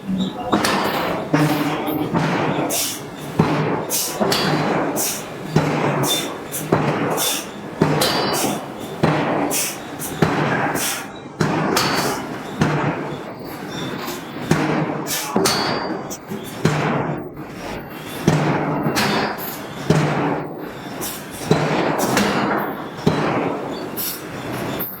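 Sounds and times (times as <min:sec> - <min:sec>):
forging hammer striking hot steel: 0:00.0 - 0:25.0.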